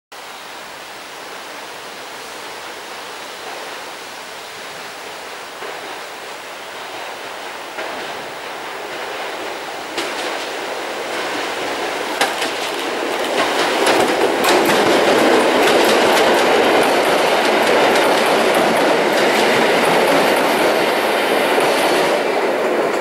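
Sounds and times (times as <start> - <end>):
train approaching on rails: 0.2 - 23.0.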